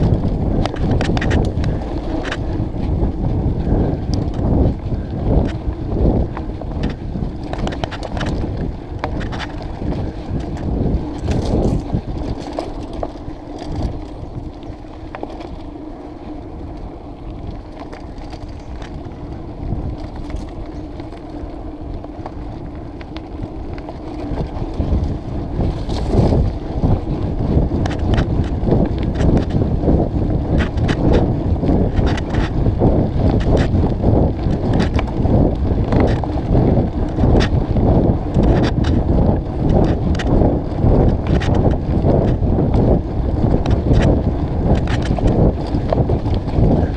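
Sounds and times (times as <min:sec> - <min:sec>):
bike rattling and knocking: 0:00.0 - 0:46.9
bike tyres rumbling over dirt: 0:00.0 - 0:46.9
wind buffeting microphone: 0:00.0 - 0:46.9.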